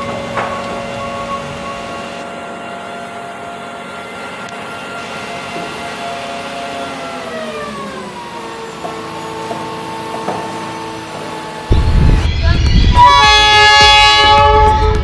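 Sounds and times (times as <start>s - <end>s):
machine drone: 0.0s - 15.0s.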